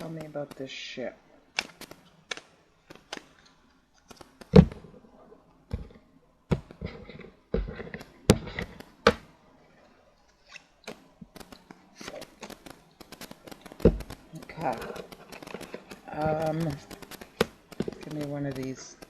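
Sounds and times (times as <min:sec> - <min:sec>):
cards shuffling: 0:01.6 - 0:05.0, 0:05.7 - 0:09.3, 0:10.3 - 0:19.0.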